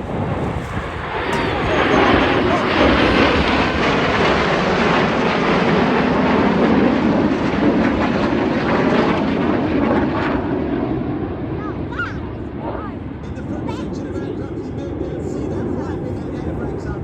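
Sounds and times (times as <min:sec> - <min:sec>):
jets flying past: 0:00.0 - 0:17.0.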